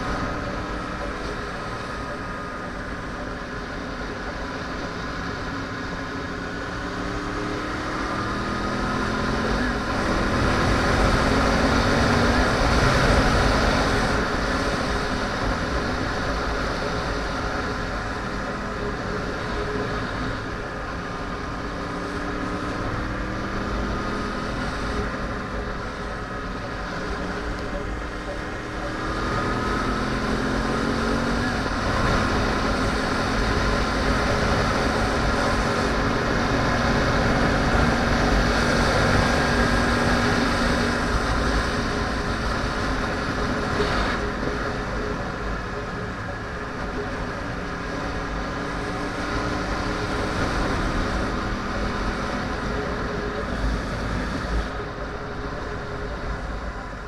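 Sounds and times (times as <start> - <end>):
motorcycle engine at road speed: 0.0 - 57.0.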